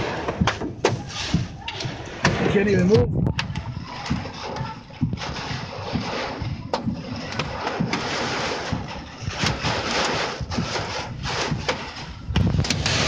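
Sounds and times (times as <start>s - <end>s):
wind buffeting: 0.0s - 13.0s.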